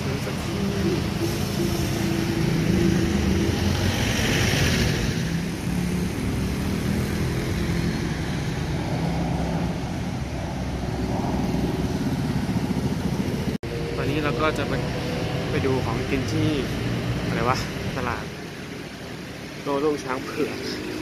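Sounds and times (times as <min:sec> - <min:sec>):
vehicle passing close: 0:00.0 - 0:18.2
cars and motorbikes passing: 0:00.0 - 0:21.0.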